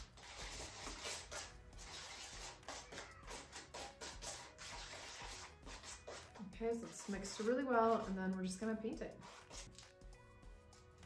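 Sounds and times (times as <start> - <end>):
utensil scraping paint on plate: 0.0 - 9.9.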